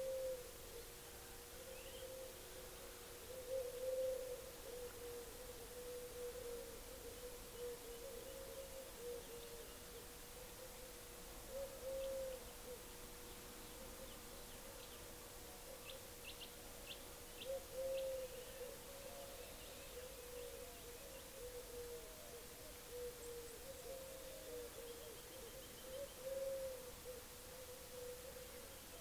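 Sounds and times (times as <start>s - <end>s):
low hooting bird call: 0.0s - 12.9s, 13.6s - 29.0s
faint steady hum: 0.0s - 29.0s.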